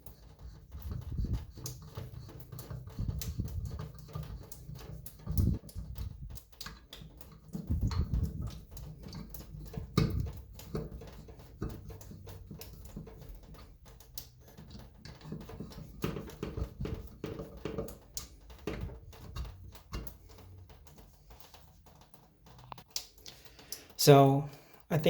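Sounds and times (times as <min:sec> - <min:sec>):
small hard parts clicking: 0:00.0 - 0:25.0.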